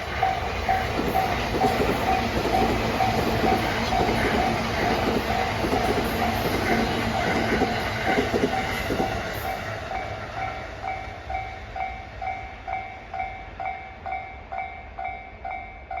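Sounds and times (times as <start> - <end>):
level-crossing warning bell dinging: 0.0 - 16.0
train rattling over rails: 0.0 - 16.0.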